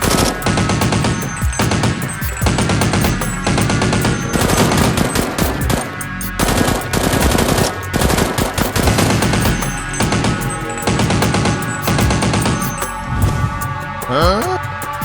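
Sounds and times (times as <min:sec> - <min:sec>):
rapid automatic gunfire: 0:00.0 - 0:05.8, 0:06.4 - 0:12.8.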